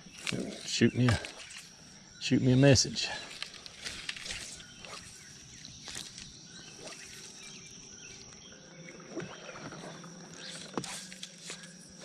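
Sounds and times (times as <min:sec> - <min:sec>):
insect buzz: 0:00.0 - 0:12.0.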